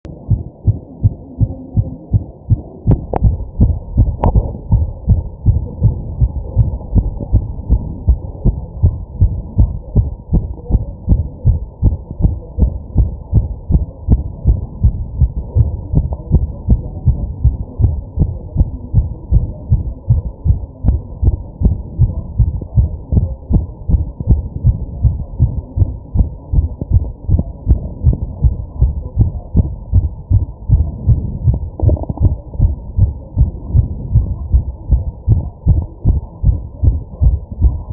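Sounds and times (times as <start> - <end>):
fast heartbeat thumps: 0.3 - 37.9.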